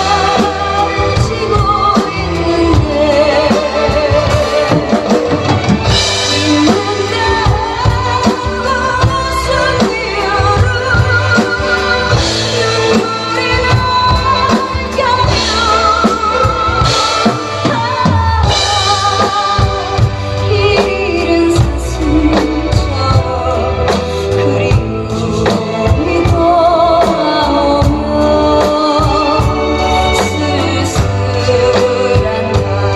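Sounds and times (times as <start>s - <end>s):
drum kit beat: 0.0s - 32.9s
woman singing with vibrato: 0.0s - 32.9s.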